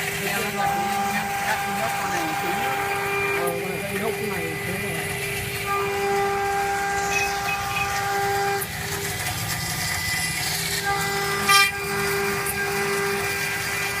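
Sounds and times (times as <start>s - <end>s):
cutting screech: 0.0s - 14.0s
router spindle milling metal: 0.0s - 14.0s.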